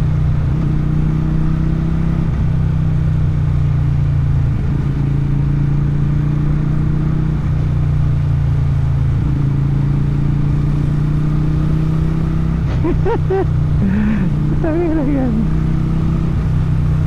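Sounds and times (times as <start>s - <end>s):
motorcycle engine and exhaust: 0.0s - 17.0s.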